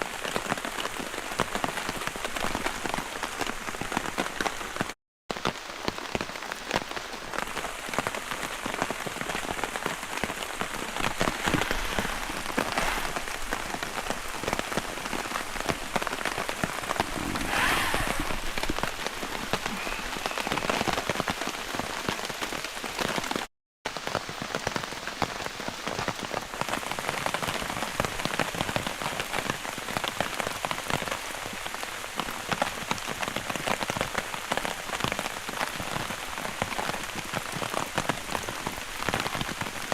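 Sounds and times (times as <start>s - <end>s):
heavy rain drumming on a tarp: 0.0s - 39.9s.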